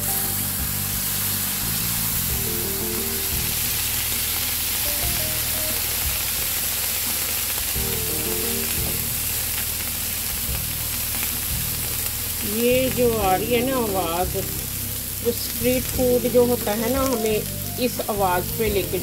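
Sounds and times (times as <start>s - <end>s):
juices sizzling on hot griddle: 0.0s - 19.0s.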